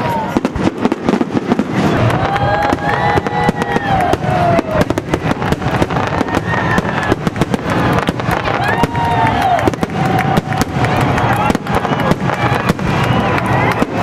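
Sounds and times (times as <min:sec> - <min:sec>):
firework whistle: 0:00.0 - 0:14.0
fireworks crackling and popping: 0:00.0 - 0:14.0.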